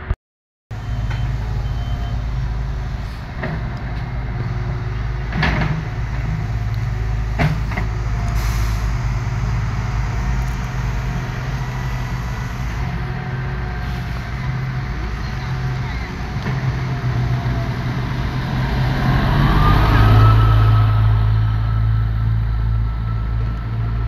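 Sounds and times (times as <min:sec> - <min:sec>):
diesel railcar engine droning: 0:00.7 - 0:24.0.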